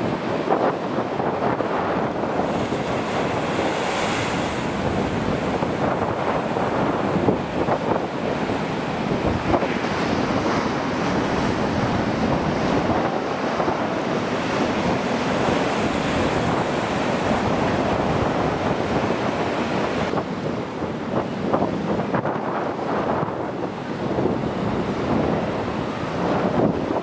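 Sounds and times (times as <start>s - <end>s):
surf rushing and breaking: 0.0s - 27.0s
wind buffeting microphone: 0.0s - 27.0s.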